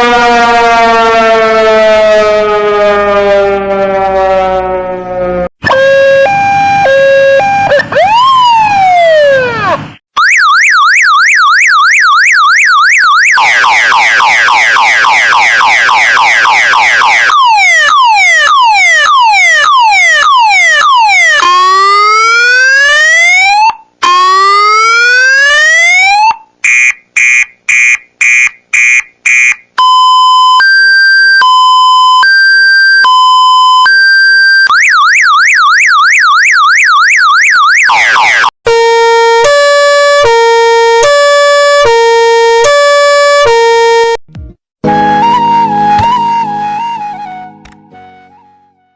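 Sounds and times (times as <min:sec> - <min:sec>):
electronic siren ringtone: 0:00.0 - 0:44.2.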